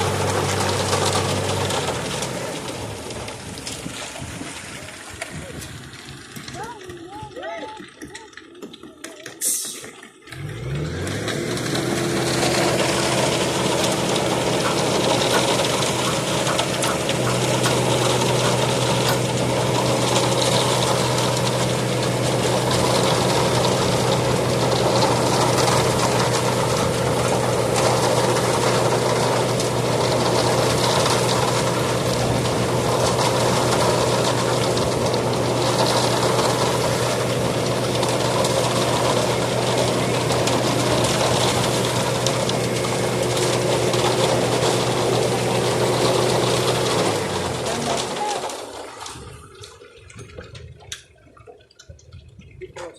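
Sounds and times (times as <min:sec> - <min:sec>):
engine starting and running: 0:00.0 - 0:52.9.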